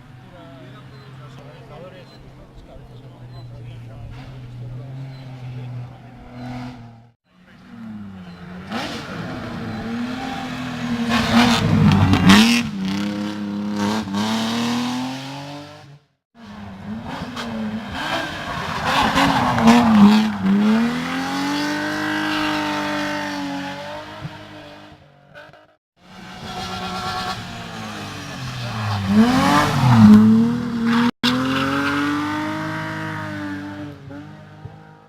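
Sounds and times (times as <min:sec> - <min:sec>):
race car engines at full throttle: 0:00.0 - 0:35.0.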